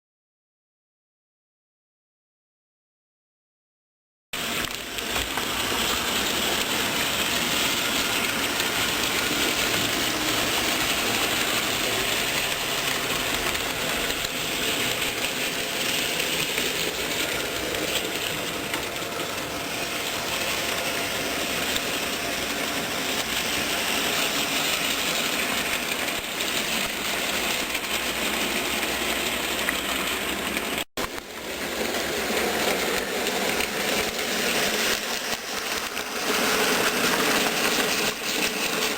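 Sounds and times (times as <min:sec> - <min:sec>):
model train whirring and rattling: 0:04.4 - 0:38.9.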